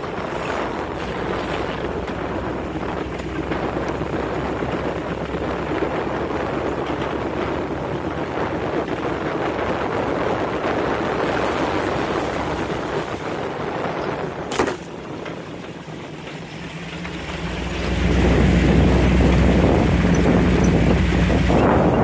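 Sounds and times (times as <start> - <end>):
off-road vehicle engine: 0.0 - 22.0
wind on the microphone: 0.0 - 22.0.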